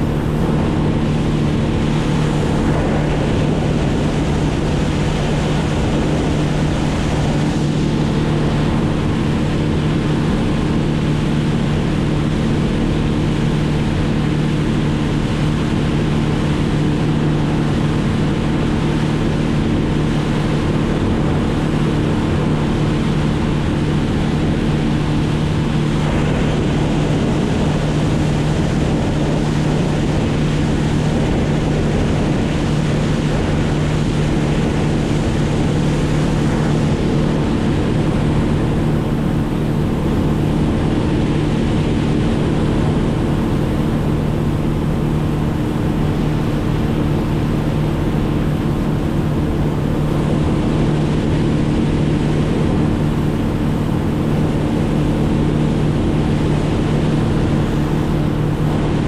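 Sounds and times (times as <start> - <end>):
small engine droning: 0.0 - 59.0
wind or water noise: 0.0 - 59.0.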